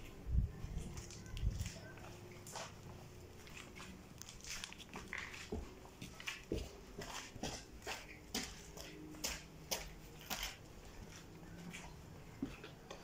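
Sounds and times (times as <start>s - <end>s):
footsteps on gritty concrete: 0.1s - 13.0s.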